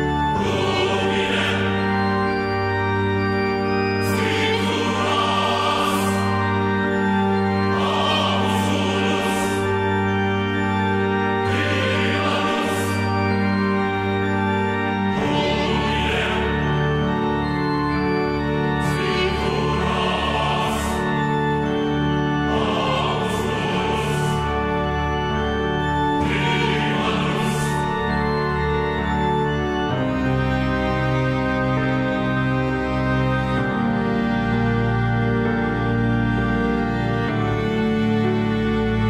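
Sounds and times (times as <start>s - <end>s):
slow held chords music: 0.0s - 39.0s.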